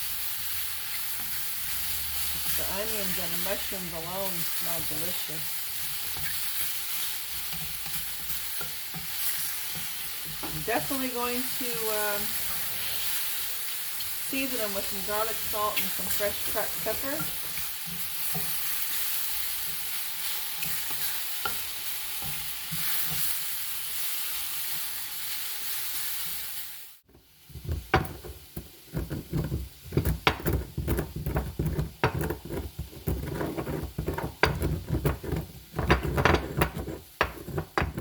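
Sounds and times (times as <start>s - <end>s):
food sizzling in a frying pan: 0.0s - 38.0s
utensil scraping a pan: 0.9s - 13.5s, 14.3s - 23.5s, 27.5s - 38.0s.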